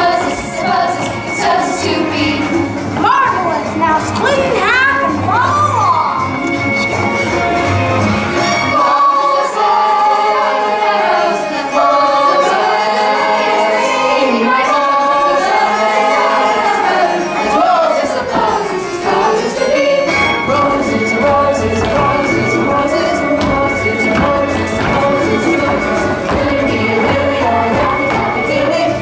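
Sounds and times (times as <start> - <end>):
chorus of young voices singing: 0.0 - 2.8, 8.6 - 29.0
low musical accompaniment: 0.0 - 29.0.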